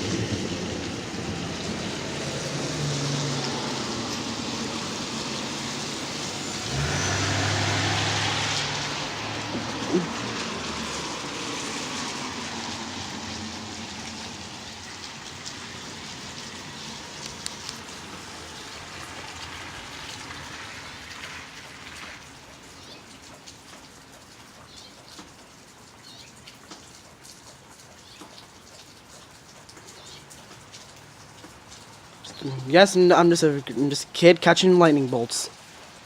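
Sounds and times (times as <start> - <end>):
close raindrops ticking: 0.0 - 36.0
rain falling: 0.0 - 36.0.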